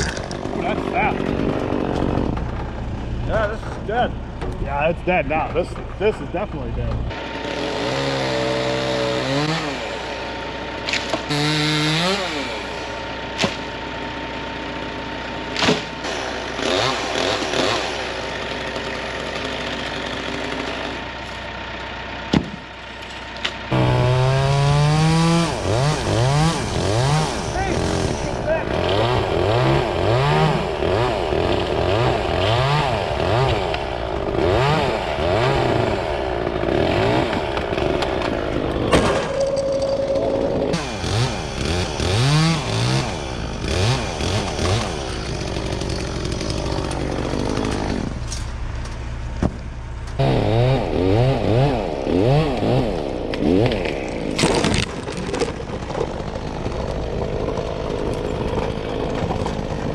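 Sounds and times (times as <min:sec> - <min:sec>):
chainsaw cutting wood: 0:00.0 - 0:02.7, 0:06.4 - 0:59.9.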